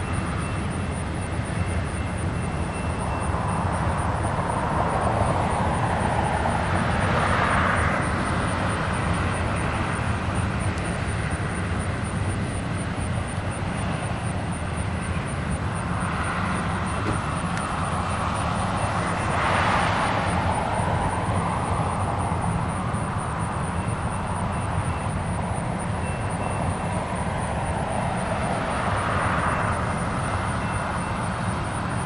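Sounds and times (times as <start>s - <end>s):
low rumble of traffic: 0.0s - 32.0s
vehicles swishing past: 1.4s - 32.0s.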